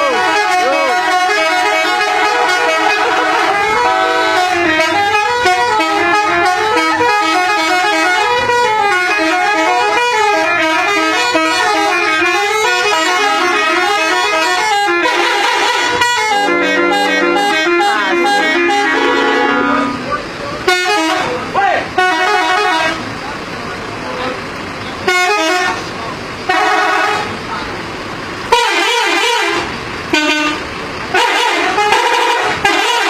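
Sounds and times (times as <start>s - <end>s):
musical bus air horn: 0.0s - 23.1s, 25.0s - 27.4s, 28.5s - 33.0s.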